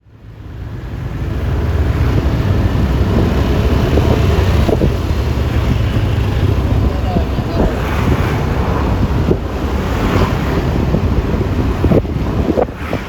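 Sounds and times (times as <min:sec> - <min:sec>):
scooter road noise: 0:00.0 - 0:13.0
wind buffeting microphone: 0:00.2 - 0:13.0.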